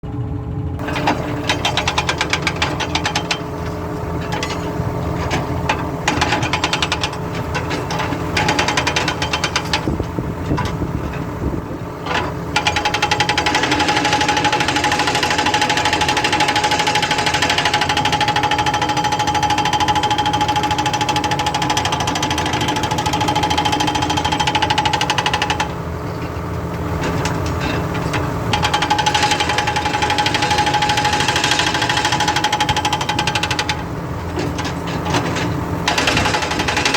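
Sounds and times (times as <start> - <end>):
excavator engine running: 0.0 - 36.9
hydraulic breaker hammering: 0.8 - 25.9, 27.0 - 36.9.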